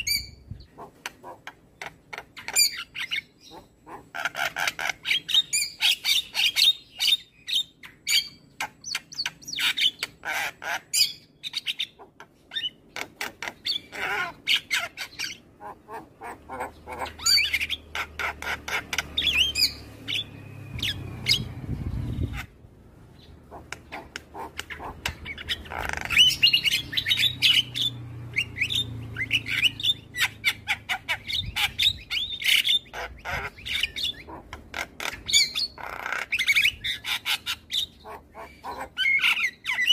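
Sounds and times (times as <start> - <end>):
bird chattering squawks: 0.0 - 21.5, 23.4 - 39.9.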